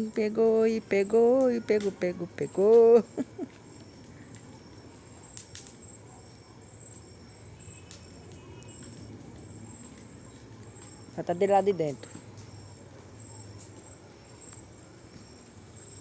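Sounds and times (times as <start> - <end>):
bonfire popping and crackling: 0.0 - 16.0
crickets chirping: 0.0 - 16.0.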